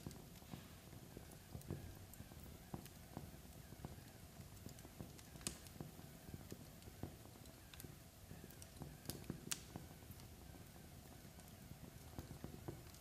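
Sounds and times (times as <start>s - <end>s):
log fire crackling: 0.0s - 13.0s.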